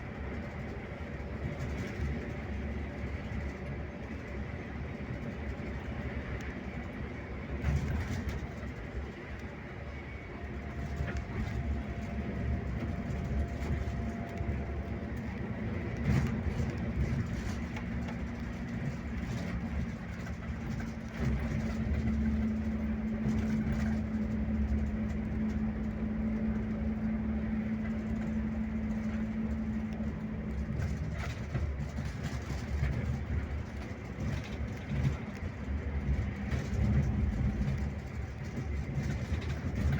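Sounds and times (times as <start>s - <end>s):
bus diesel engine running: 0.0s - 39.9s
road rumble: 0.0s - 39.9s.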